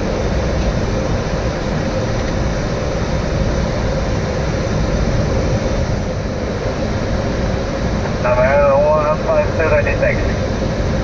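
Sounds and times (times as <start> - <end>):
continuous mid-pitched tone: 0.0 - 11.0
rush of air and engine hum: 0.0 - 11.0.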